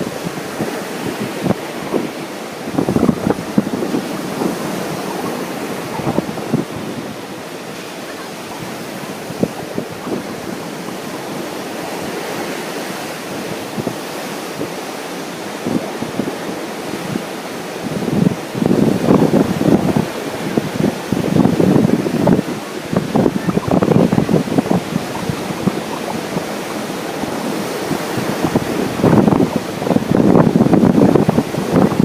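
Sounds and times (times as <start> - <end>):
ocean surf washing: 0.0 - 32.0
wind buffeting microphone: 0.0 - 32.0.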